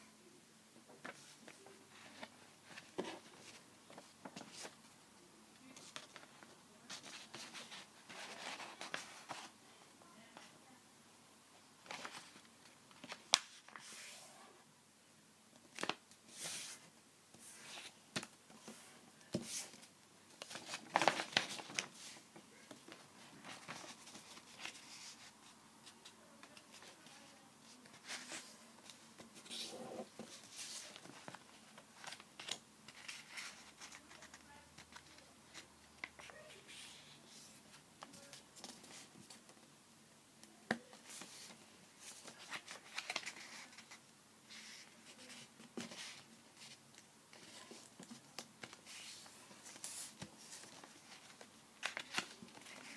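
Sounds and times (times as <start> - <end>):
paper folding and crinkling: 1.0 - 4.9, 5.6 - 9.6, 11.8 - 14.3, 15.7 - 39.6, 40.7 - 52.9.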